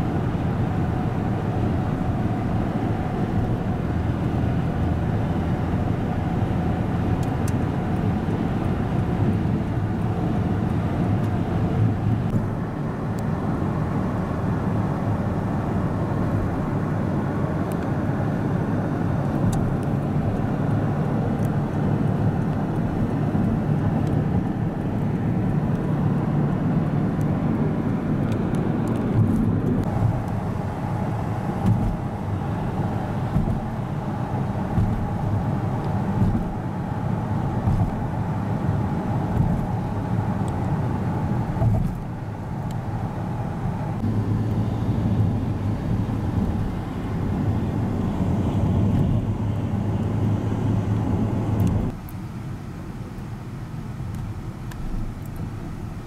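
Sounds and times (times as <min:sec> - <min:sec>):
car road noise on highway: 0:00.0 - 0:56.0.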